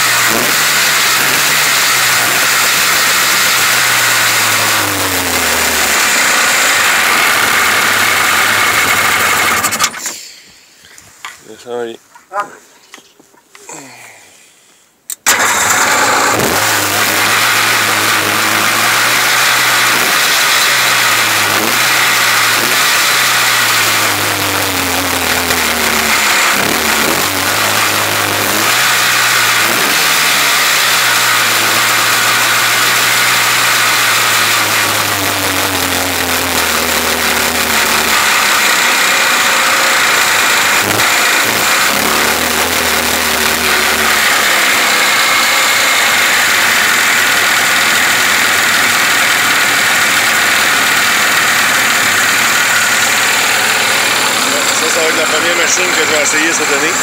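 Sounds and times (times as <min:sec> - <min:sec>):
watercraft engine revving: 0:00.0 - 0:10.0, 0:15.2 - 0:57.0
engine cranking: 0:00.0 - 0:10.2, 0:15.1 - 0:57.0.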